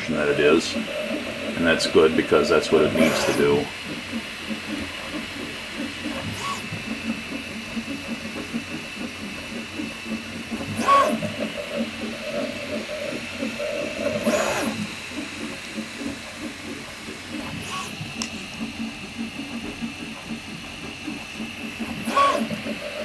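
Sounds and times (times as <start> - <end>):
stepper motors buzzing: 0.0 - 23.0.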